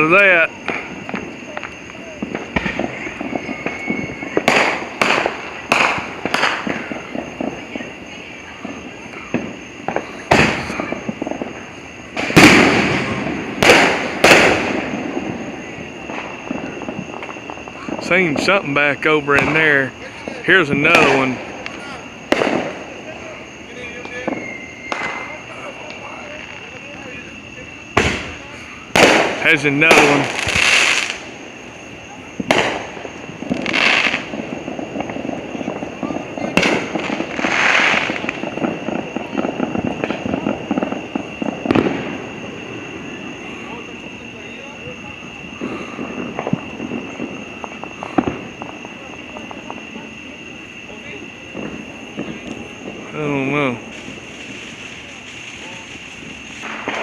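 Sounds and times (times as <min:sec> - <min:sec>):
fireworks bangs with rolling echo: 0:00.0 - 0:57.0
fireworks crack: 0:00.0 - 0:57.0.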